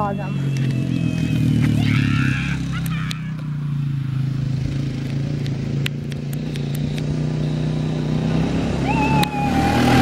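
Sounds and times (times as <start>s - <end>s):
quad engine running: 0.0s - 10.0s.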